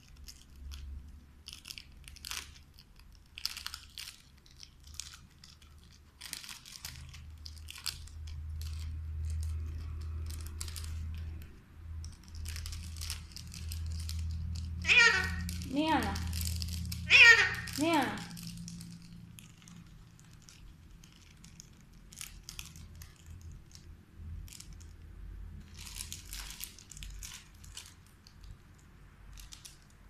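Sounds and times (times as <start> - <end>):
plastic wrapper crackling: 0.0 - 30.0.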